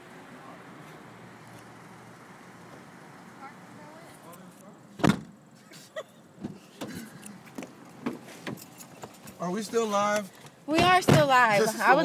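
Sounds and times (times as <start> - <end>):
faint traffic hum: 0.0 - 12.0.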